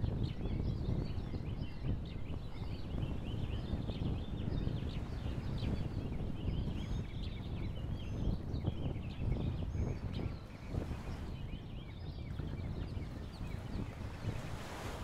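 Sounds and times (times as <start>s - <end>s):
birds chirping: 0.0s - 15.0s
wind rumbling on microphone: 0.0s - 15.0s.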